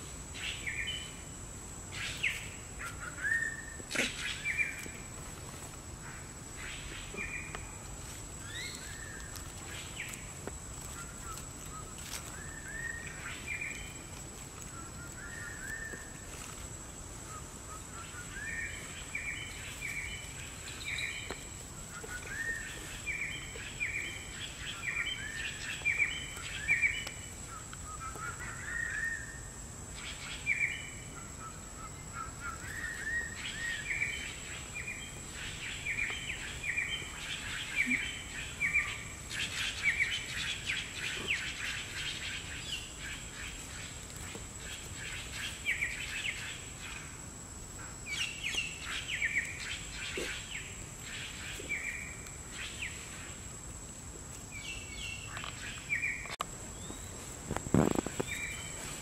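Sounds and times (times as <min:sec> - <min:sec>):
birds chirping: 0:01.9 - 0:47.2, 0:48.0 - 0:53.5, 0:54.5 - 0:59.0.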